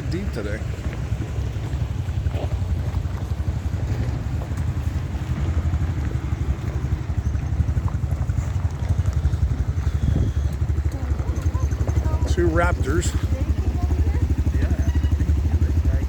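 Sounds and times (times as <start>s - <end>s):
off-road vehicle engine rumble: 0.0s - 16.0s
tyres on bumpy dirt trail: 0.0s - 16.0s.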